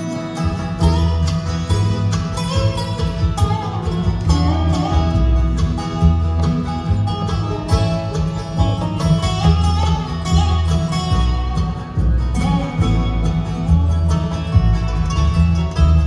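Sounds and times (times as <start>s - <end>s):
banjo: 0.0s - 16.0s
bluegrass band playing: 0.0s - 16.0s
upright bass line: 0.0s - 16.0s.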